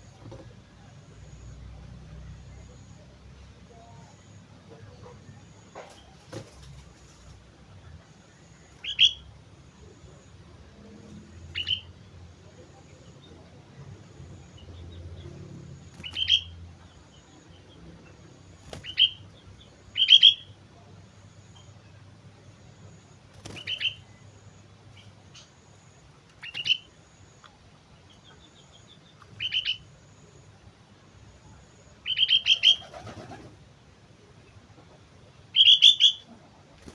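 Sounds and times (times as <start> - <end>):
bird chirping: 2.2 - 10.4, 11.2 - 30.6, 31.4 - 33.4, 35.5 - 36.9.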